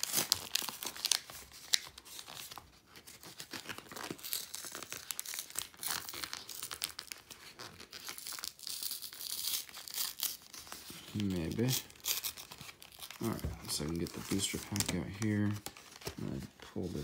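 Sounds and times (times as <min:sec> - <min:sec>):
blister pack tearing and crinkling: 0:00.0 - 0:17.0.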